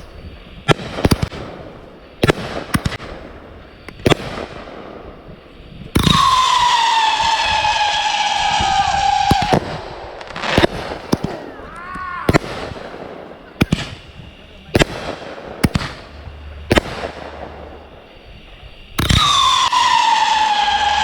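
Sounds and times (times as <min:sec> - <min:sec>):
firework bangs: 0:00.0 - 0:21.0
whistling firework screaming: 0:00.0 - 0:21.0.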